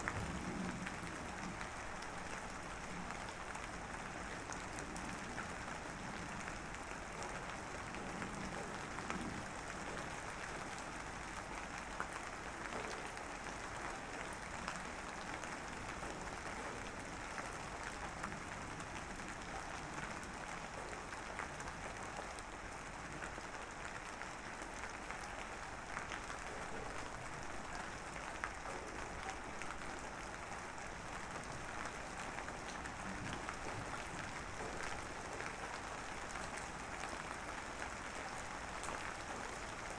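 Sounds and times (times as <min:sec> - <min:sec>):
drizzling rain: 0:00.0 - 0:39.9.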